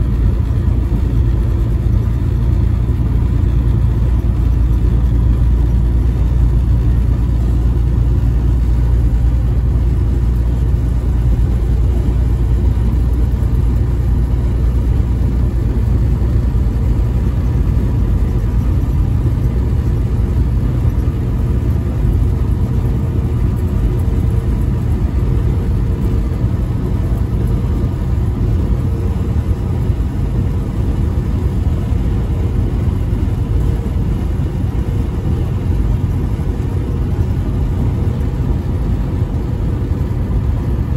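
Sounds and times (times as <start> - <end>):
faint constant hum: 0.0 - 40.9
vehicle engine and tyres rumbling: 0.0 - 40.9.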